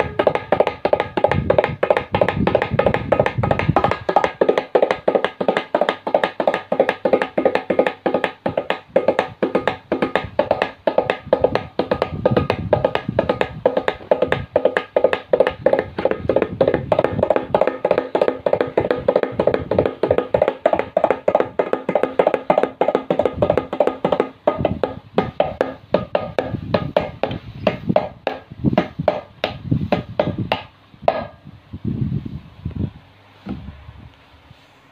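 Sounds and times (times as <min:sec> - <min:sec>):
tabla drumming rapid strokes: 0:00.0 - 0:31.3.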